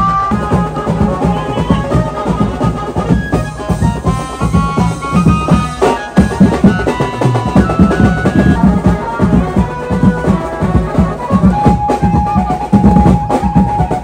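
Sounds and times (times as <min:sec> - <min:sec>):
music with fast drum beat: 0:00.0 - 0:14.0.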